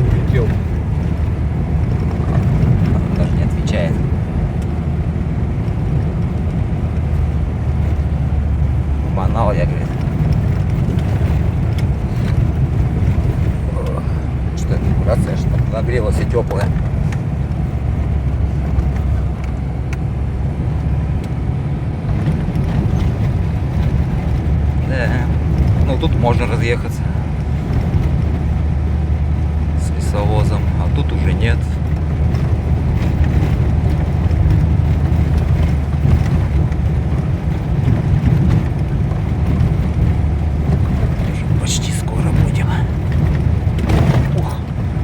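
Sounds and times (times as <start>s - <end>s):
faint light rattles: 0.0s - 20.0s, 20.8s - 45.0s
engine and road rumble: 0.0s - 45.0s.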